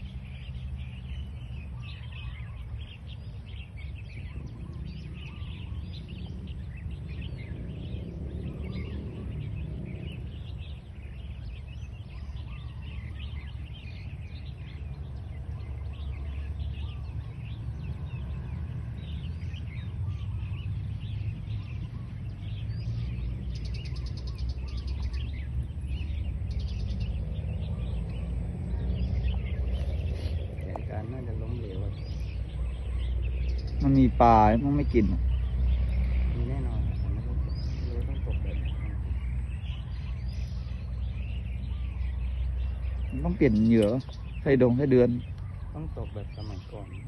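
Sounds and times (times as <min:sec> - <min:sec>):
low outdoor rumble: 0:00.0 - 0:47.0
small birds chirping: 0:00.0 - 0:47.0.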